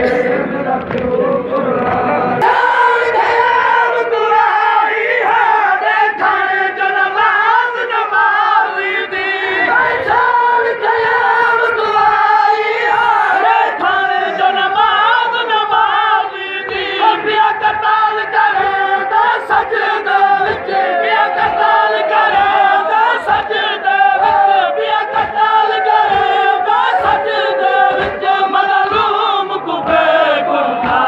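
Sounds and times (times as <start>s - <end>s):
men chanting in unison: 0.0s - 31.0s.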